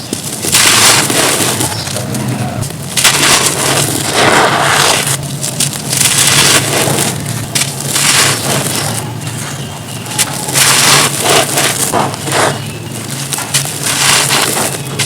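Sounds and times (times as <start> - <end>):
stone crunching and crumbling: 0.0 - 15.0.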